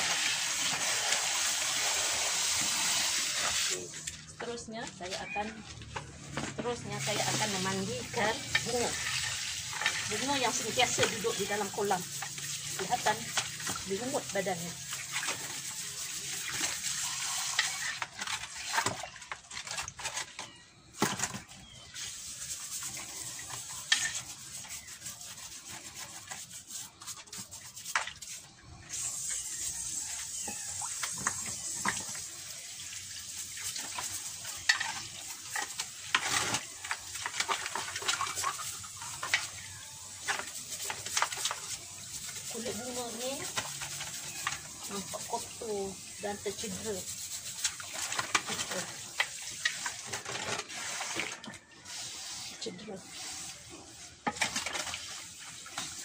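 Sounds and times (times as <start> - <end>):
running water hiss: 0.0 - 4.4, 6.8 - 18.9, 21.6 - 56.0.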